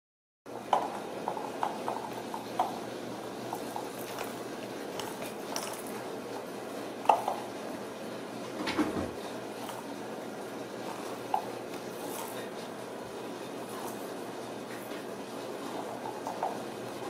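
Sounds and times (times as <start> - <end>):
steady room hiss: 0.5 - 17.0.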